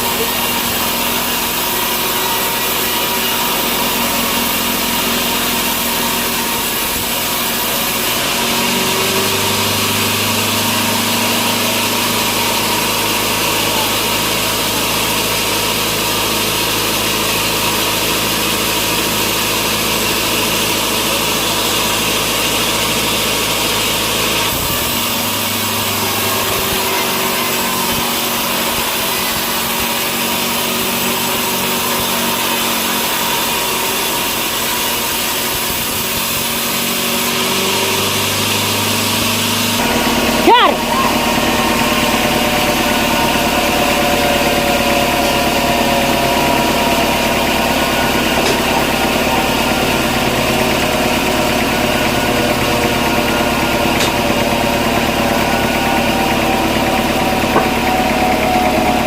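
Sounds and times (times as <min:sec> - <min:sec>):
sawmill saw cutting wood: 0:00.0 - 0:59.0.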